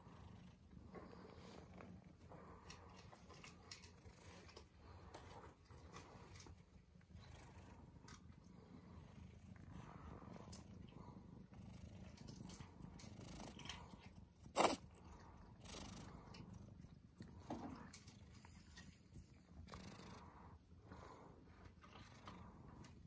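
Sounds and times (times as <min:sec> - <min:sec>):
kitten purring: 0:00.0 - 0:23.0.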